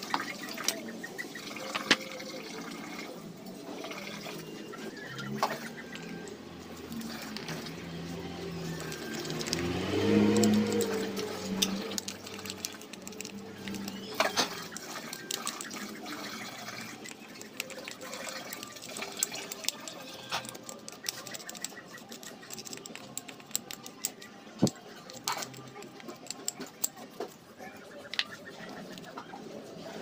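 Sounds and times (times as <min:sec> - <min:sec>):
toothbrush scrubbing metal: 0:03.7 - 0:30.0.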